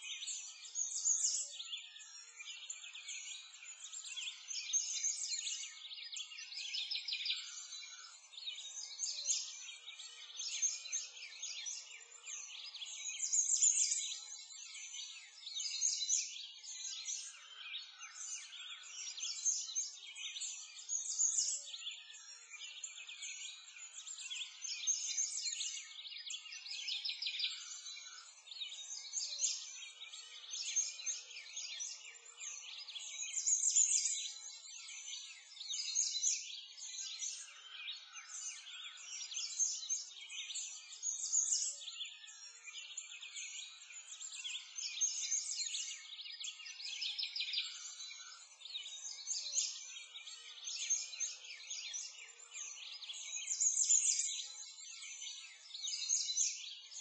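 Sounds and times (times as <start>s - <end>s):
small birds chirping and trilling: 0.0s - 57.0s.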